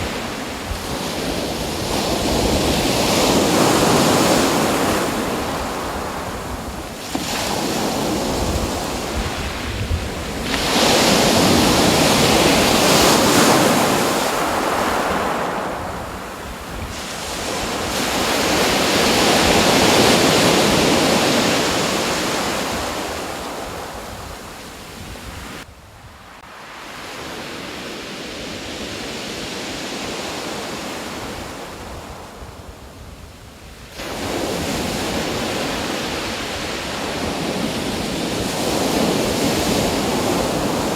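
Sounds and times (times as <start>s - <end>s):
ocean surf washing in: 0.0s - 32.8s, 33.8s - 40.9s.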